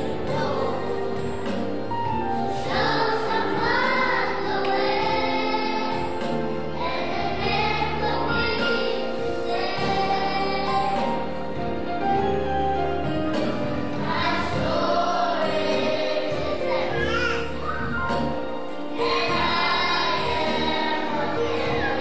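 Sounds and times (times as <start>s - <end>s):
children's choir singing: 0.0s - 22.0s
held accompaniment notes: 0.0s - 22.0s.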